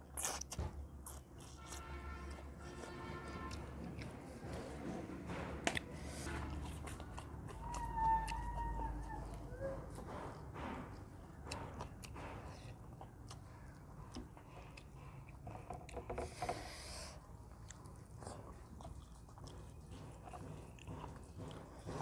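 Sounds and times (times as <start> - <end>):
person chewing: 0.0 - 9.9, 10.9 - 22.0.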